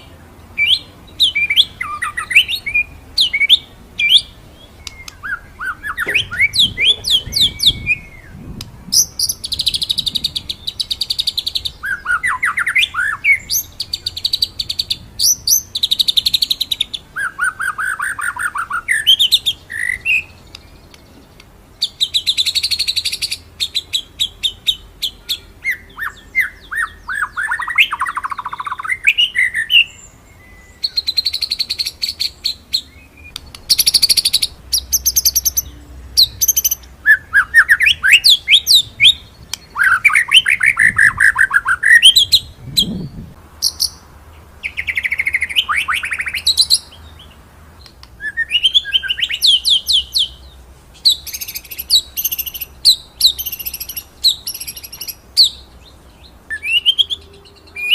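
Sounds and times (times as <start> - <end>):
songbird singing with trills: 0.0 - 57.9.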